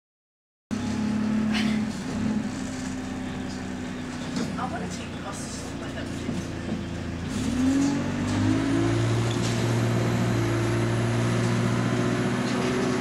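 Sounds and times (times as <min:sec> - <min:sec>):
bus engine accelerating: 0:00.7 - 0:13.0.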